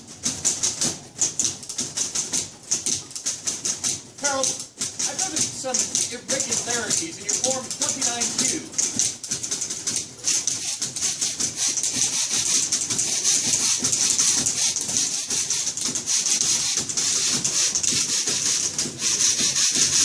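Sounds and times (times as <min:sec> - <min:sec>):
typewriters clattering: 0:00.0 - 0:20.0.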